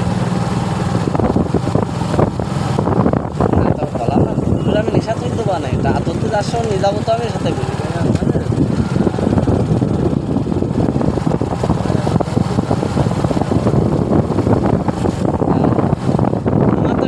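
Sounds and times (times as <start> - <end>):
motorcycle engine: 0.0 - 17.0
wind and road noise: 0.0 - 17.0.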